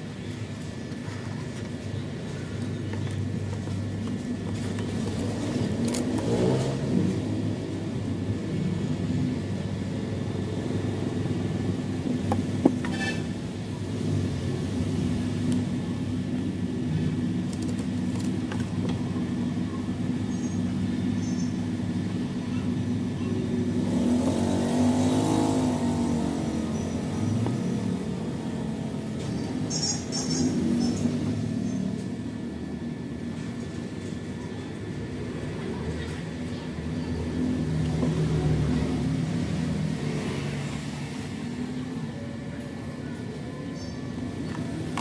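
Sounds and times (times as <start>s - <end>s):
low engine rumble: 0.0s - 45.0s.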